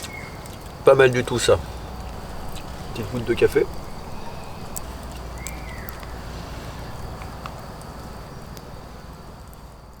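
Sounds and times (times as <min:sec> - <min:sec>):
faint crackles and clicks: 0:00.0 - 0:10.0.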